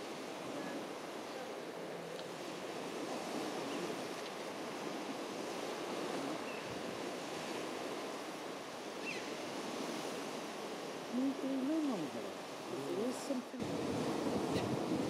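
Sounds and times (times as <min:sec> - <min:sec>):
waves washing over shingle: 0:00.0 - 0:15.0
wind on microphone: 0:02.3 - 0:15.0.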